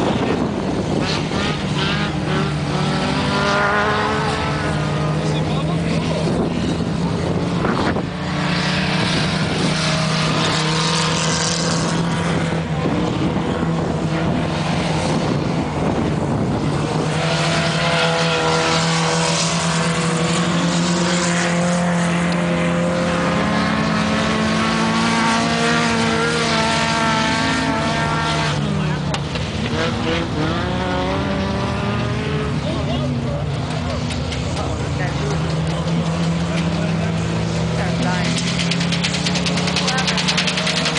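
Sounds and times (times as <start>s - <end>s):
racing car engines droning: 0.0s - 40.9s.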